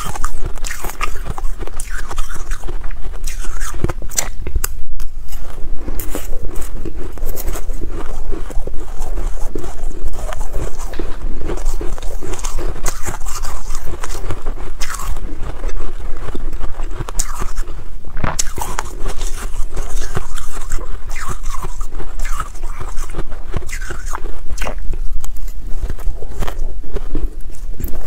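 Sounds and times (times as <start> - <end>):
frost being chewed crunching: 0.0 - 28.0.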